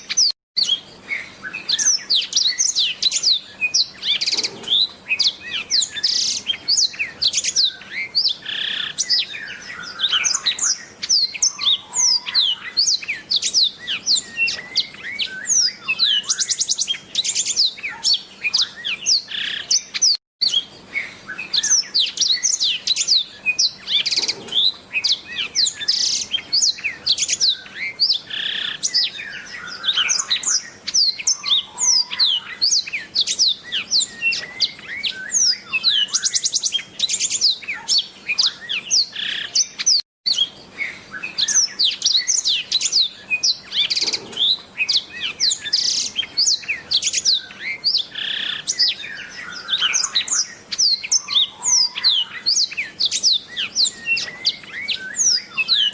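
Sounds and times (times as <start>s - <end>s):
canary twittering song: 0.0s - 55.9s.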